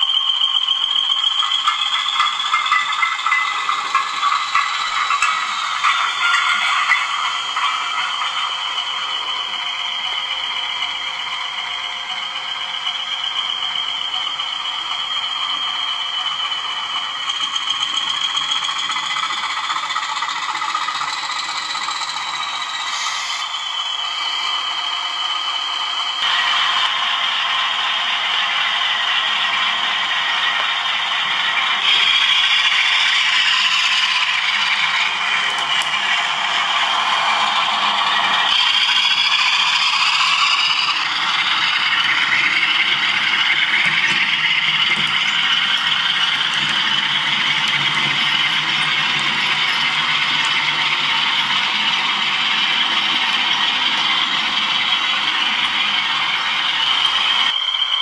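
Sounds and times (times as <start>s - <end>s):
model wheels rattling on track: 0.0s - 58.0s.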